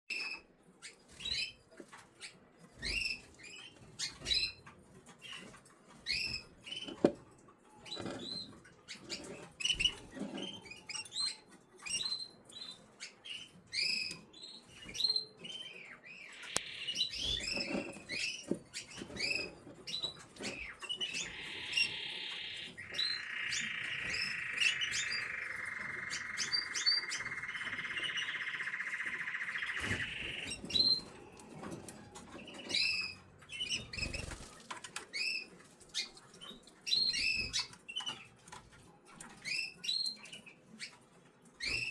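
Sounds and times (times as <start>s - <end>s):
chicks cheeping: 0.1s - 41.9s.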